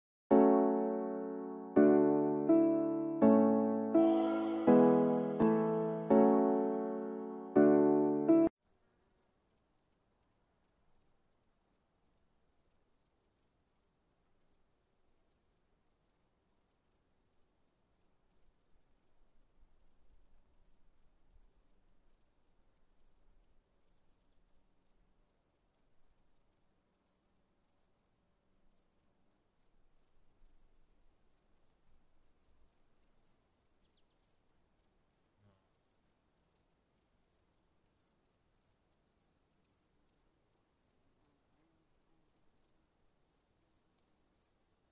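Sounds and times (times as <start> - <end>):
insects droning and chirping: 8.6 - 44.9.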